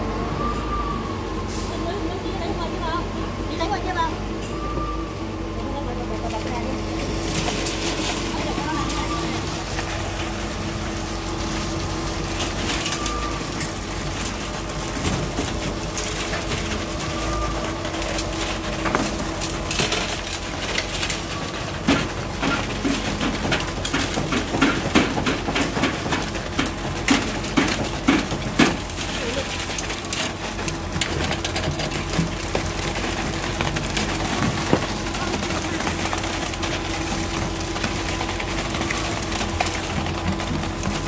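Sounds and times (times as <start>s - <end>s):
concrete pump and truck engine: 0.0s - 41.0s.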